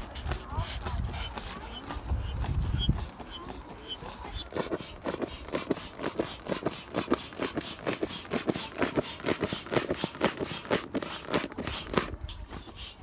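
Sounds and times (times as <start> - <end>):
bellows air pump strokes: 0.0 - 13.0.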